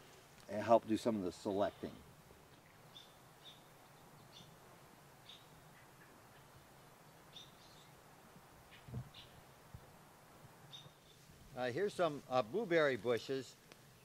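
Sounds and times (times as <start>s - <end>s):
small bird chirping faintly: 0.0s - 11.7s.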